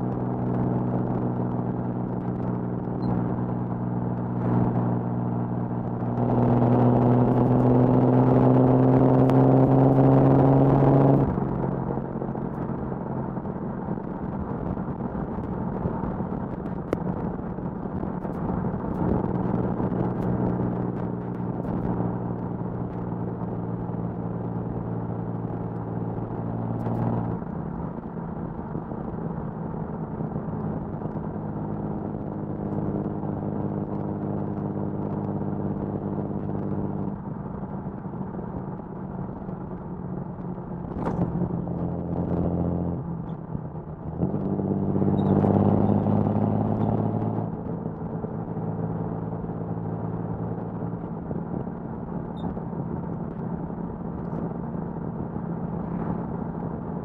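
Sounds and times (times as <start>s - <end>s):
car exhaust note while driving: 0.0s - 57.0s.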